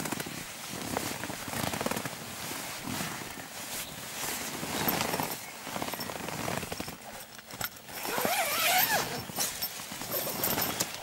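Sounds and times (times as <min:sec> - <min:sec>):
hammock and netting rustling: 0:00.0 - 0:11.0.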